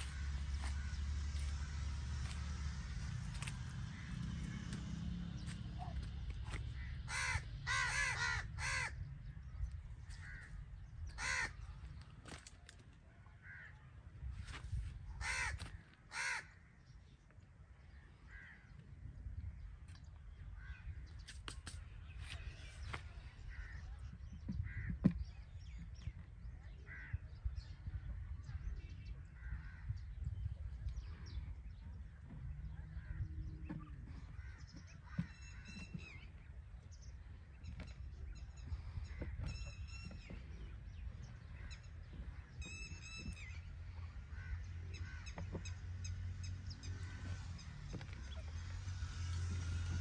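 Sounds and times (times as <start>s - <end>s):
steady low rumble: 0.0s - 45.8s
birds calling: 0.0s - 50.0s.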